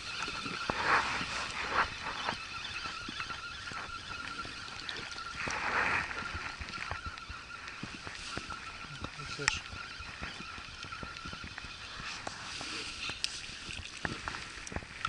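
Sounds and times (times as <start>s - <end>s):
thin steady whine: 0.0s - 15.0s
water lapping against boat hull: 0.0s - 15.0s.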